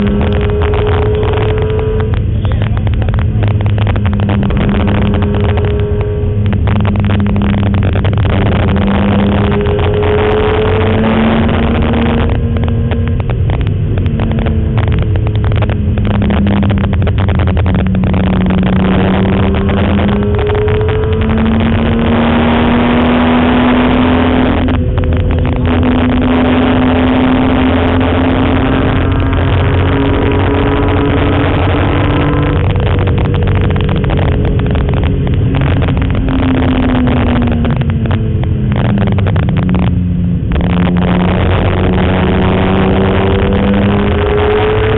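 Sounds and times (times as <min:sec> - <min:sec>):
race car engine revving: 0:00.0 - 0:44.9
road and wind noise: 0:00.0 - 0:44.9.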